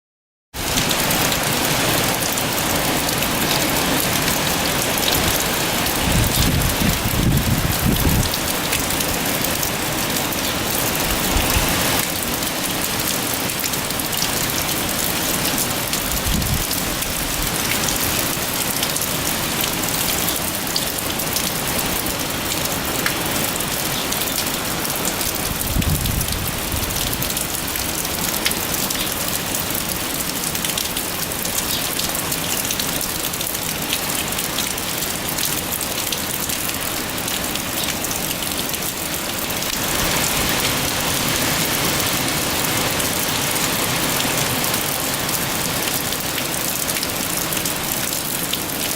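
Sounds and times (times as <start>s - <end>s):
heavy rain pouring: 0.6s - 48.9s.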